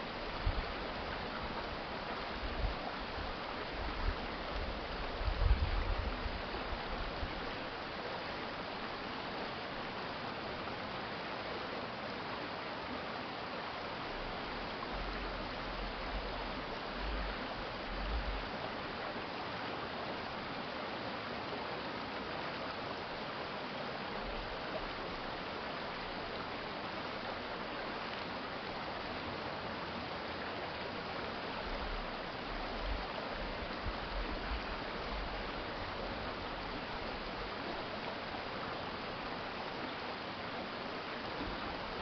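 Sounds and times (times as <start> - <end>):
stream flowing: 0.0 - 42.0.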